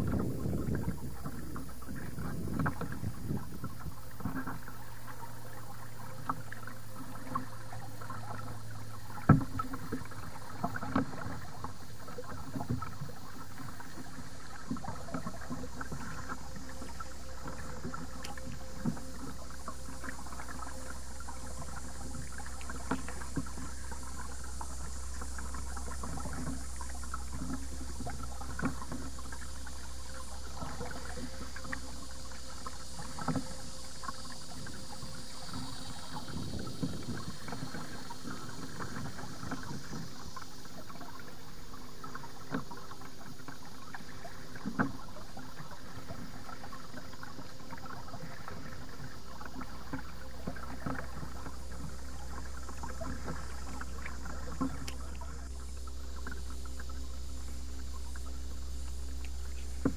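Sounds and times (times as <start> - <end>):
paddle splashes and drips: 0.0 - 59.9
steady low hum: 0.0 - 59.9.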